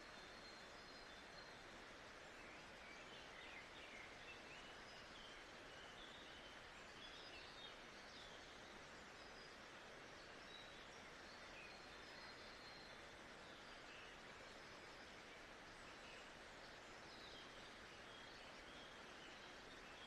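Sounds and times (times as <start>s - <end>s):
soft steady hiss: 0.0s - 20.0s.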